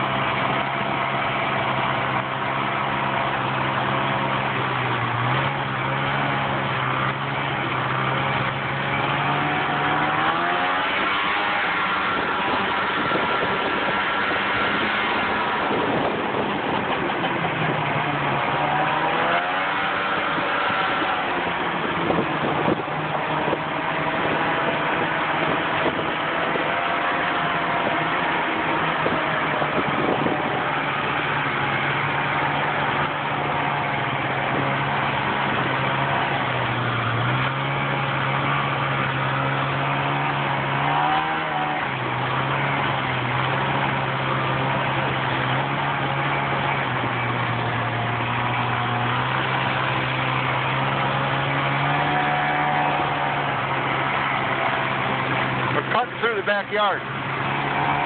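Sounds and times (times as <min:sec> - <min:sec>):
rush of wind and track noise: 0:00.0 - 0:58.0
snowmobile engine running: 0:00.0 - 0:58.0.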